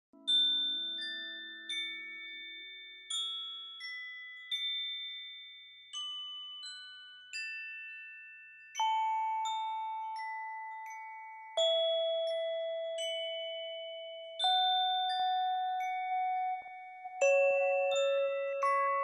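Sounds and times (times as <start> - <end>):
bell-like notes ringing: 0.2 - 19.0.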